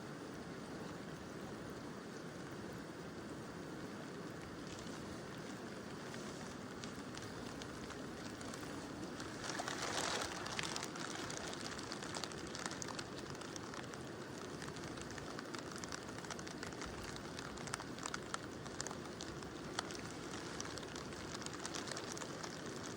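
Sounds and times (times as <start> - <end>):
raindrop ticks: 4.4 - 22.9.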